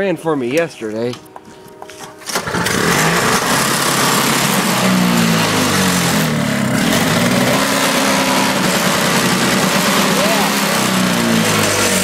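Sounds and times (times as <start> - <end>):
snowblower engine running unevenly: 2.3 - 12.0.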